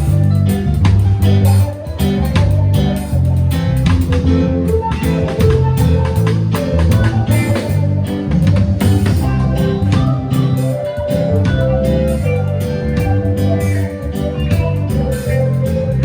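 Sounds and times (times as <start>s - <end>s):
guitar: 0.0s - 16.0s
live band instrumental: 0.0s - 16.0s.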